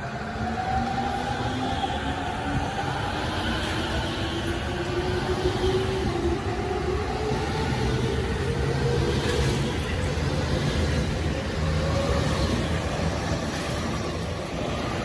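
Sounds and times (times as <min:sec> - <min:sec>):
train cars rumbling on track: 0:00.0 - 0:15.0.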